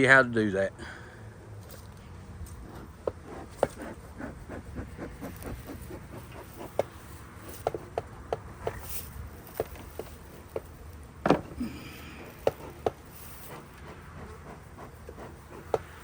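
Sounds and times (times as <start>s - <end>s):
steady low rumble: 1.0s - 16.0s.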